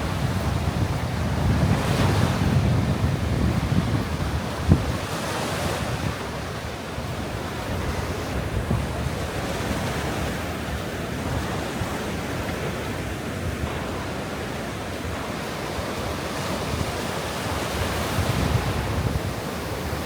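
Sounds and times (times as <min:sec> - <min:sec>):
sea waves surf: 0:00.0 - 0:20.0
wind buffeting microphone: 0:00.0 - 0:20.0.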